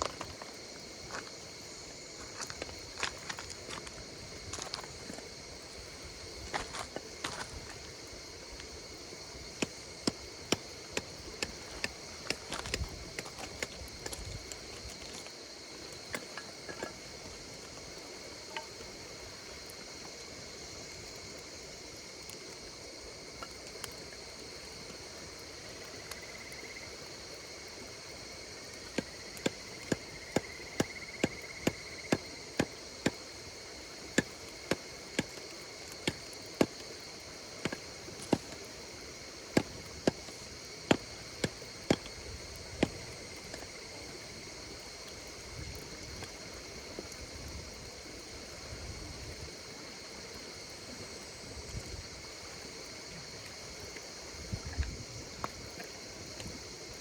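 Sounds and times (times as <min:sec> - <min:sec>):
campfire crackling and popping: 0:00.0 - 0:47.2
insects trilling: 0:00.0 - 0:57.0.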